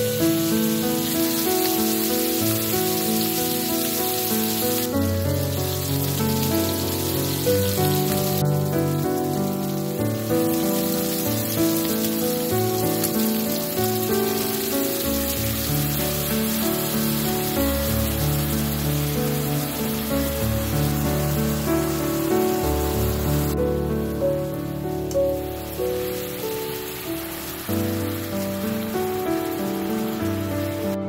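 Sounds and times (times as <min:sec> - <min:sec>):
background music melody: 0:00.0 - 0:31.0
continuous hiss: 0:00.0 - 0:31.0.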